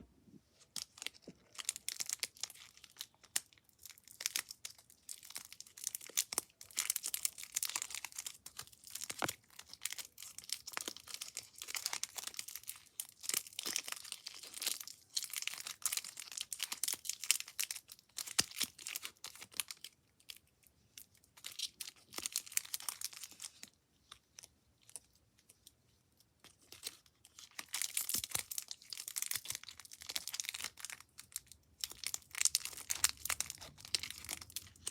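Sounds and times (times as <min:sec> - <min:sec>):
crumpled material crinkling: 0:00.5 - 0:34.9.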